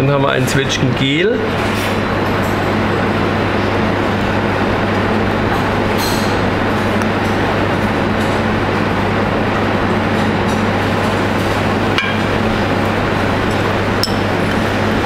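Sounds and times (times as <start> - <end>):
ventilation rushing with low hum: 0.0 - 15.0.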